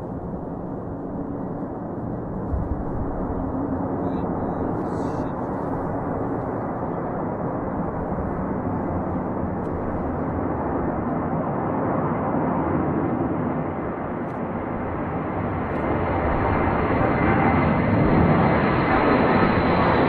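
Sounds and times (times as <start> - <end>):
jet engines at high power: 0.0 - 20.0.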